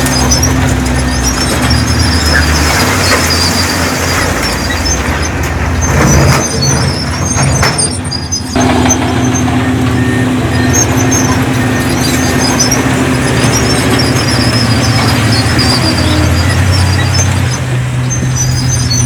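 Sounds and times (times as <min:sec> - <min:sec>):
faint high squeaks: 0:00.0 - 0:19.0
heavy diesel engine droning: 0:00.0 - 0:19.0.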